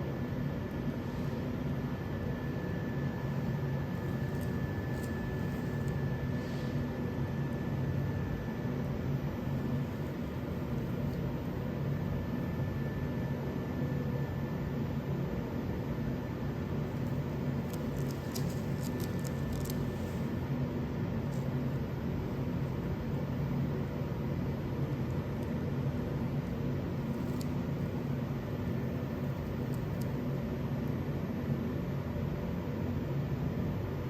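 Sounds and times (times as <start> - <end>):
motor hum with hiss: 0.0 - 34.0.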